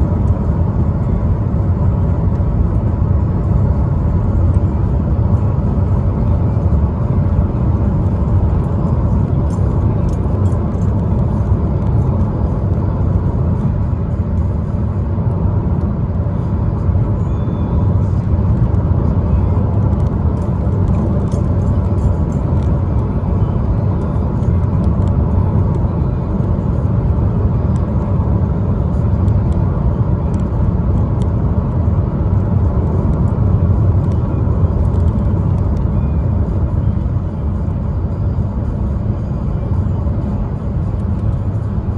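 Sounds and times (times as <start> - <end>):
car road and engine noise: 0.0 - 41.9.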